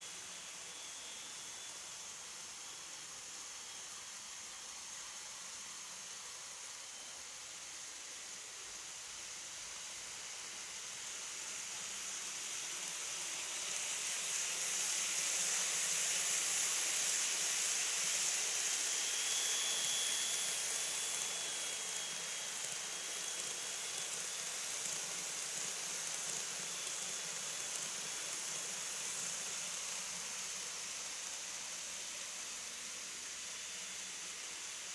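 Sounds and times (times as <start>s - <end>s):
model train wheels and motor hiss: 0.0s - 34.9s.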